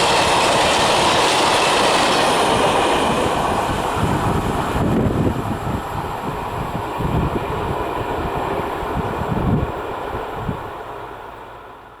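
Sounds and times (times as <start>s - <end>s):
train rumbling past on rails: 0.0s - 12.0s.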